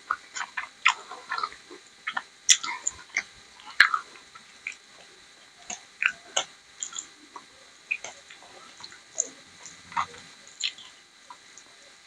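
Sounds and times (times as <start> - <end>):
close chewing and mouth sounds: 0.0 - 11.9.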